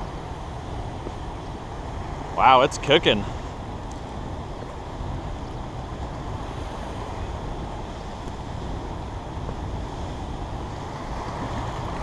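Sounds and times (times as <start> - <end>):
white water rushing from spillway: 0.0 - 12.0.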